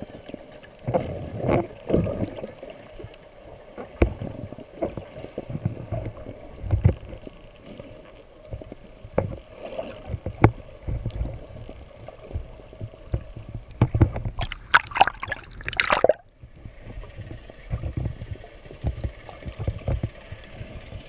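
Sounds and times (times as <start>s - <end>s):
underwater sloshing and bubbling: 0.0s - 21.0s.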